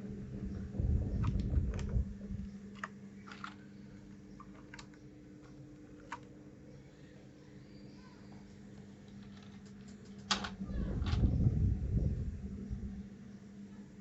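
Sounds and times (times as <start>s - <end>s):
faint steady hum: 0.0s - 14.0s
low rumble of handling: 0.0s - 14.0s.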